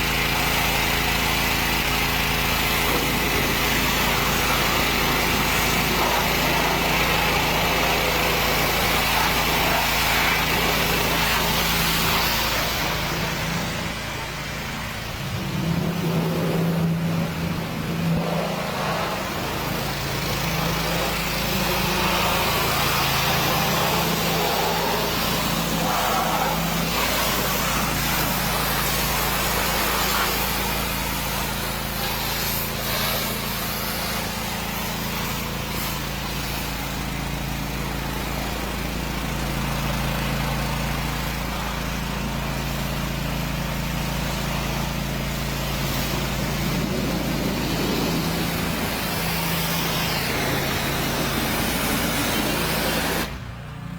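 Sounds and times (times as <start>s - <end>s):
pressure washer motor hum: 0.0s - 53.9s
water spraying hiss: 2.5s - 37.4s, 44.1s - 53.4s.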